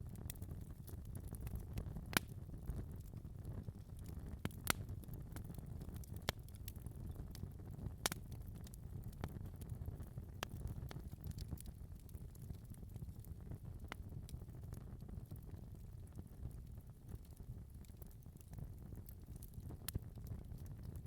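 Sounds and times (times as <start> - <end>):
fire popping and snapping: 0.0 - 21.0
low rumble of flames: 0.0 - 21.0.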